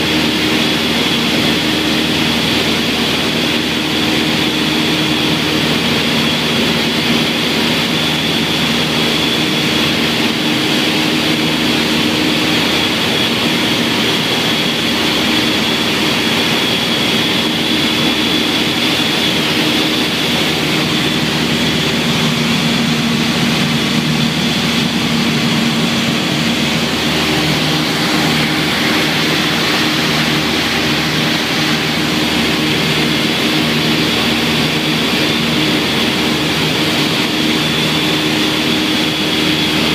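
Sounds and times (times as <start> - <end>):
aircraft engines droning in cabin: 0.0 - 39.9.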